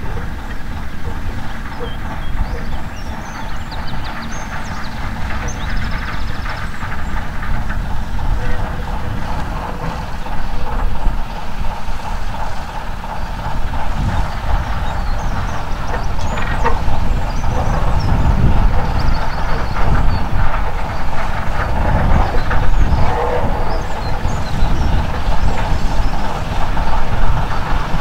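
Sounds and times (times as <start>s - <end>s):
diesel locomotive engine: 0.0s - 28.0s.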